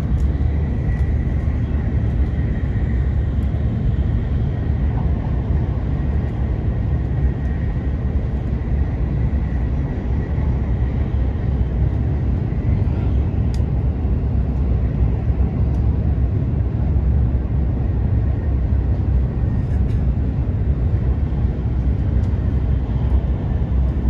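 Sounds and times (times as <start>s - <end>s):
train deep rumble: 0.0s - 24.0s.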